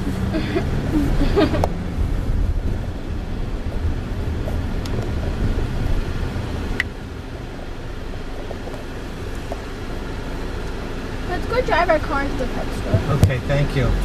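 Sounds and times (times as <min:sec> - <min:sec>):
car cabin road and engine rumble: 0:00.0 - 0:14.0.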